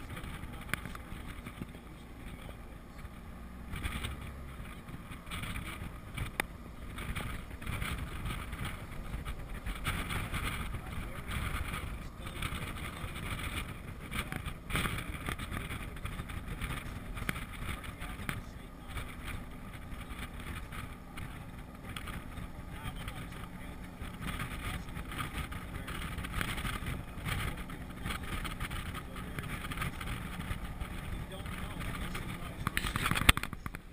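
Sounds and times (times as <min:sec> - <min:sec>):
engine and tyres rumbling: 0:00.0 - 0:33.9
wind noise on microphone: 0:00.0 - 0:33.9.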